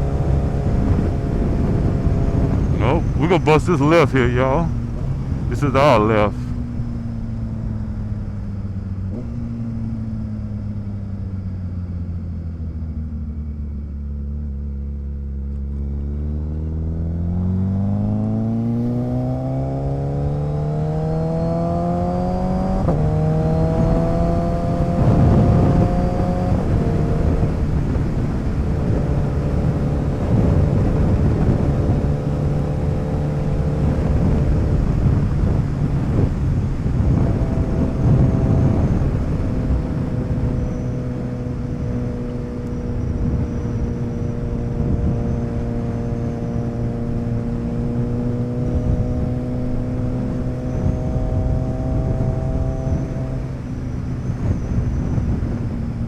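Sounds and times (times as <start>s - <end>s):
motorcycle engine accelerating: 6.5s - 56.0s.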